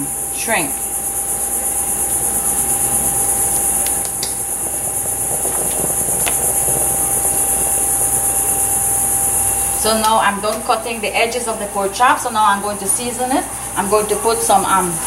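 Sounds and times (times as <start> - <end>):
faint hum: 0.0 - 15.0
insect chorus: 0.0 - 15.0.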